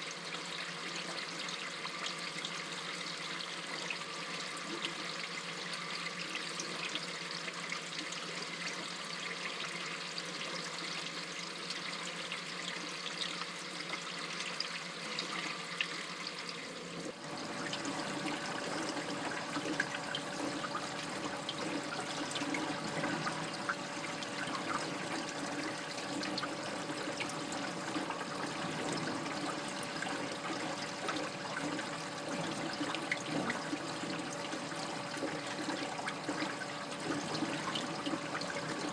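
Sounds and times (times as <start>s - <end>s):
aquarium water trickling and splashing: 0.0s - 38.9s.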